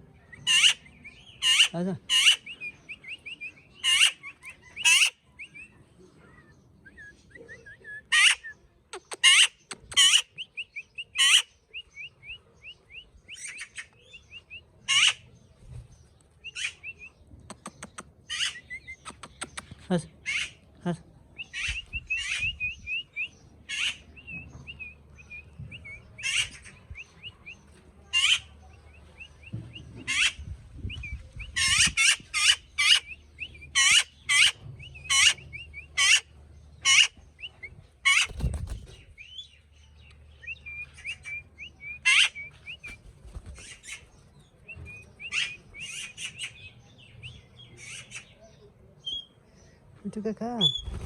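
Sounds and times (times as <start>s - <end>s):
soft chatter of small chirps: 0.0s - 51.0s.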